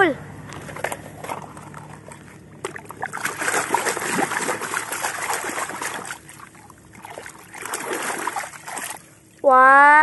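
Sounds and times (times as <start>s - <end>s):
muddy water sloshing and splashing: 0.4s - 9.6s.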